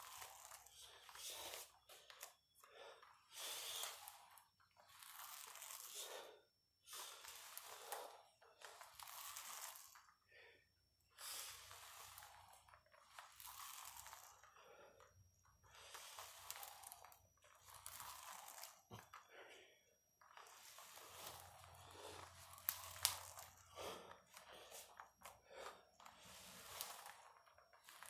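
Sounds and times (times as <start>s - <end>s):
ab wheel rolling over floor: 0.0s - 28.0s.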